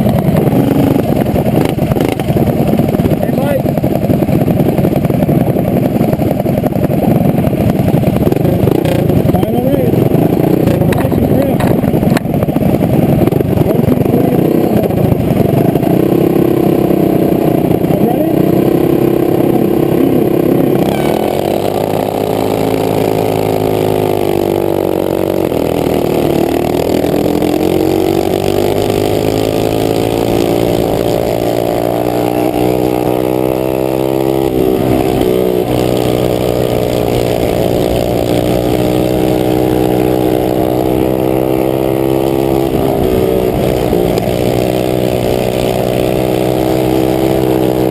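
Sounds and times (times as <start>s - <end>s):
minibike engines revving: 0.0s - 47.9s.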